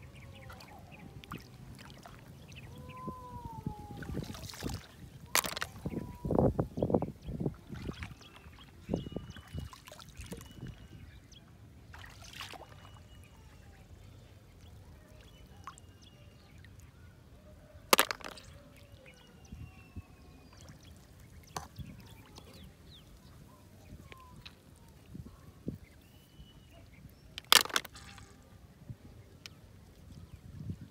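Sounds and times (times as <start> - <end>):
water splashing and trickling: 0.0 - 16.9, 20.2 - 30.9.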